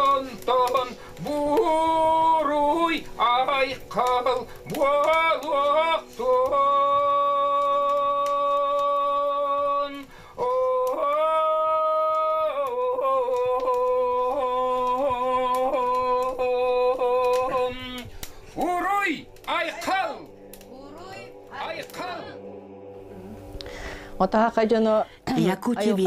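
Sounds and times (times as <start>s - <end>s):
man chanting: 0.0s - 20.3s, 21.2s - 22.5s.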